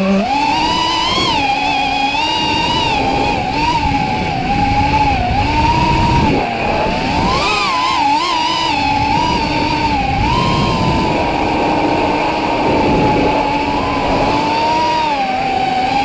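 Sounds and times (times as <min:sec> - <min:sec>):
quadcopter motors whining: 0:00.0 - 0:16.0
rush of wind: 0:00.0 - 0:16.0.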